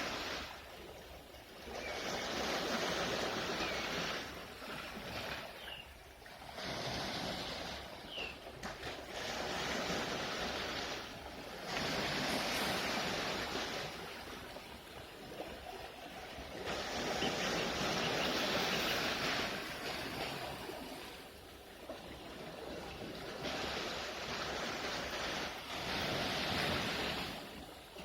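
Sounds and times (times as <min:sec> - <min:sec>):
sea waves surging: 0:00.0 - 0:28.0.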